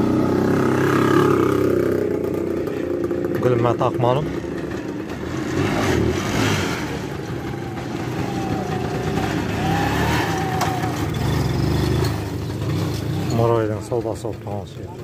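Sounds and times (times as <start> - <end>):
scooter engine passing slowly: 0.0 - 15.0.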